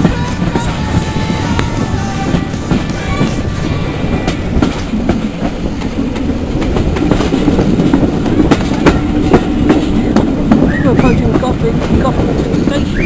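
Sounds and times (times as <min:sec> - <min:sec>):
train wheels rumbling on rails: 0:00.0 - 0:13.0
wheels clicking over track: 0:00.0 - 0:13.0.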